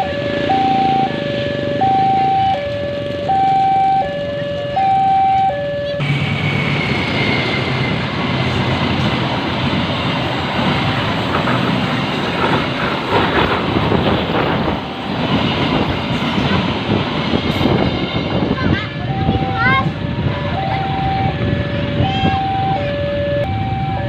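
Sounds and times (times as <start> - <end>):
heavy vehicles rumbling past: 0.0 - 5.0, 5.6 - 24.0.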